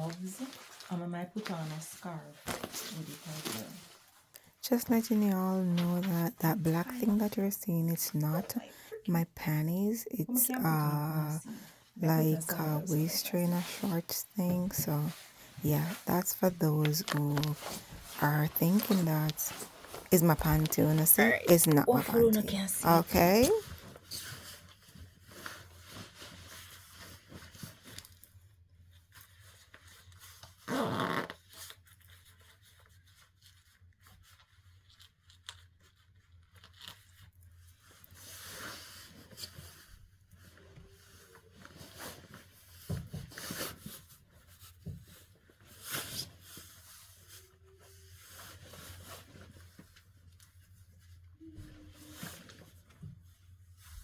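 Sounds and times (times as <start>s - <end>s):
fabric rustling and scraping: 0.0s - 8.8s, 9.4s - 54.0s.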